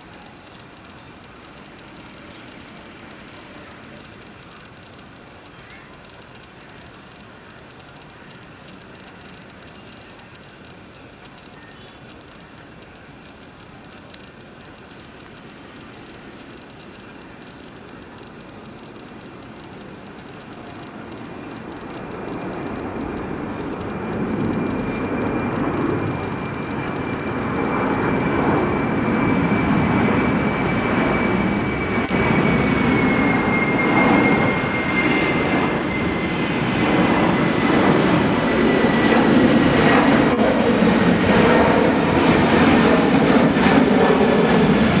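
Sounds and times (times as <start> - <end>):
high engine whine: 0.0 - 45.0
jet engines roaring: 0.0 - 45.0.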